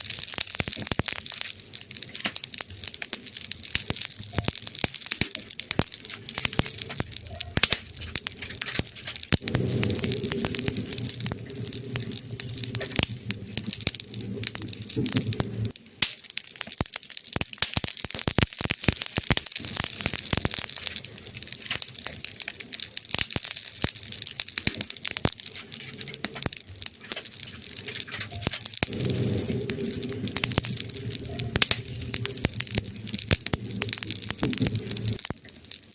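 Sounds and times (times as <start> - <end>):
burning wood crackling and popping: 0.0 - 35.9
low rumble of flames: 0.0 - 35.9.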